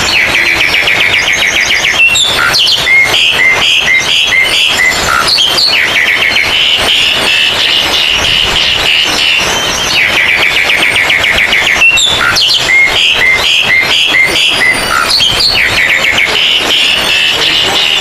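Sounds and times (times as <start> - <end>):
magpie-robins singing: 0.0 - 18.0.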